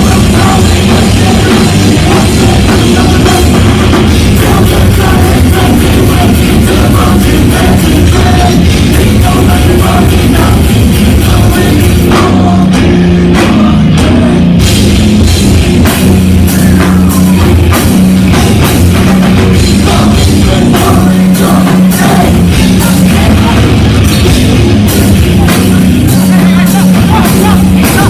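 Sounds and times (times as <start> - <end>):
bass guitar: 0.0 - 28.0
distorted electric guitar: 0.0 - 28.0
pounding drum kit: 0.0 - 28.0.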